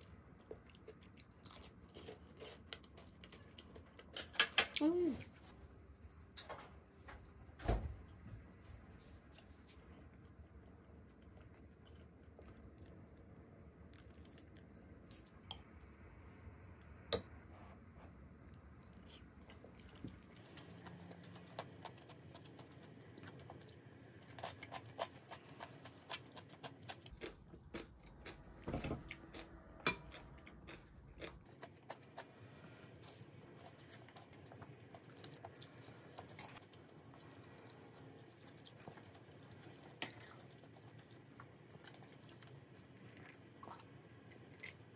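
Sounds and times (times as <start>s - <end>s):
chewing and crunching: 0.0s - 4.2s, 9.4s - 15.4s, 18.0s - 44.9s.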